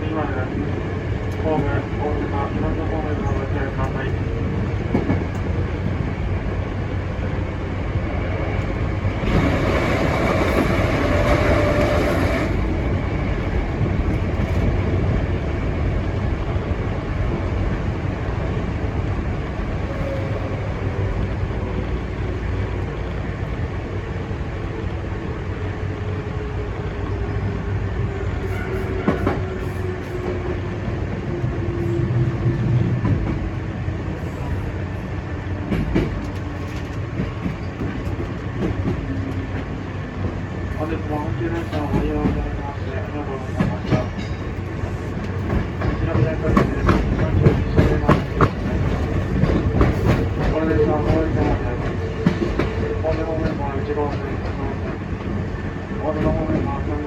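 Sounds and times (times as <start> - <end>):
train wheels rumbling on rail: 0.0 - 57.0
rail joint clicks: 1.1 - 57.0.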